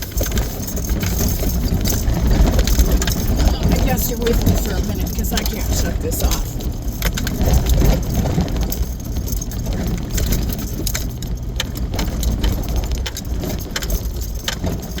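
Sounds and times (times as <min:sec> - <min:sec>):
rattling and knocks from bumps: 0:00.0 - 0:15.0
vehicle on rough dirt road: 0:00.0 - 0:15.0.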